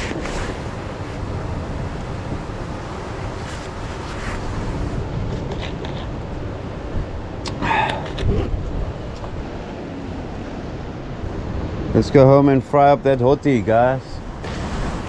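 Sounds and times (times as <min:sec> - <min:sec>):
sea surf on rocks: 0:00.0 - 0:15.0
wind buffeting microphone: 0:00.0 - 0:15.0.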